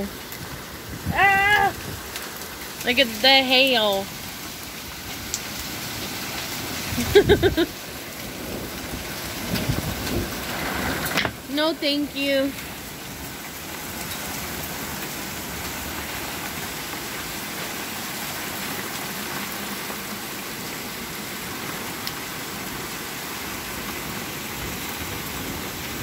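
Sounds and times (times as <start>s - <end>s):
hail hissing: 0.0s - 26.0s
hailstones ticking: 0.1s - 26.0s.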